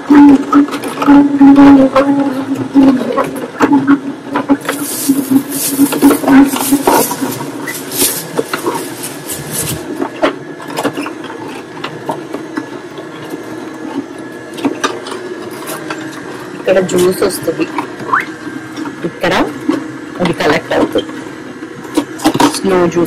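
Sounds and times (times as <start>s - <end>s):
juicer motor hum: 0.0s - 23.0s
crackling and crunching of food pressed: 0.1s - 22.6s.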